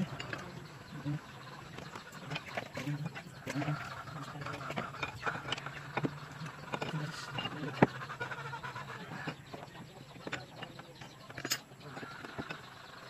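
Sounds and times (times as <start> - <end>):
faint animal calls: 0.0 - 13.0.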